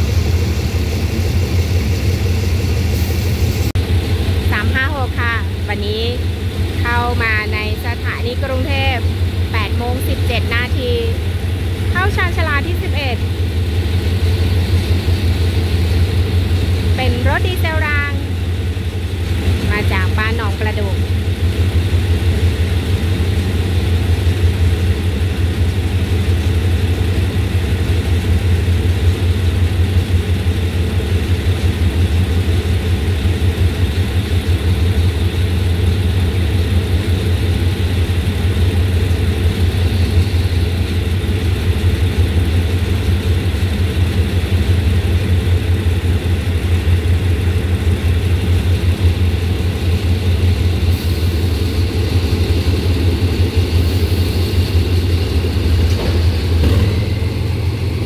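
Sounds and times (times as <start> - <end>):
locomotive engine idling: 0.0 - 58.0.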